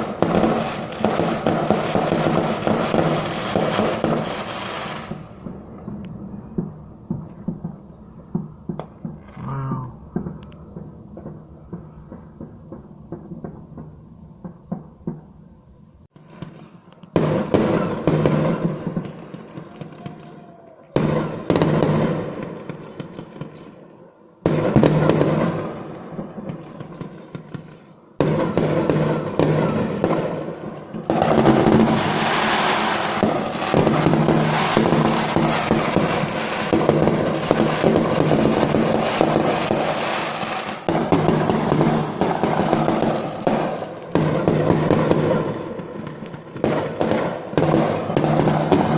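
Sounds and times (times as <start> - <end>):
fireworks crackling and banging: 0.0 - 48.9.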